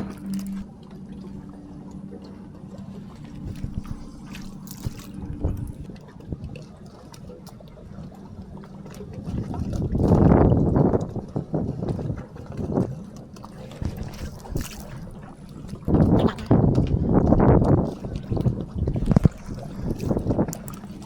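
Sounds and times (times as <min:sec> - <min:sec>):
steady low hum: 0:00.0 - 0:21.0
water splashing and dripping: 0:00.0 - 0:21.0.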